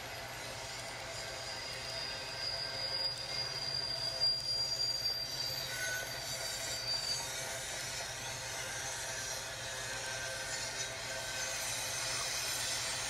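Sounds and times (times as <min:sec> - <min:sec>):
model train running rumble: 0:00.0 - 0:13.0
model train wheel screech: 0:00.0 - 0:13.0.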